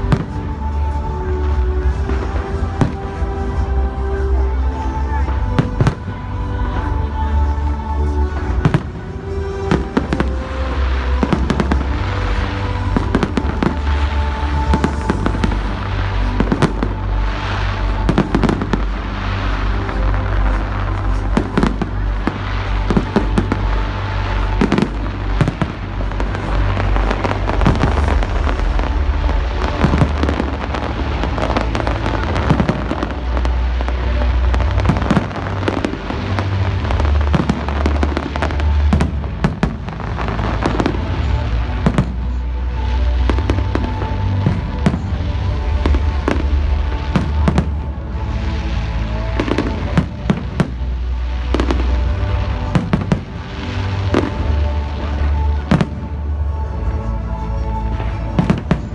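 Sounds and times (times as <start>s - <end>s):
fireworks bangs and crackling: 0.0s - 56.8s, 57.7s - 58.9s.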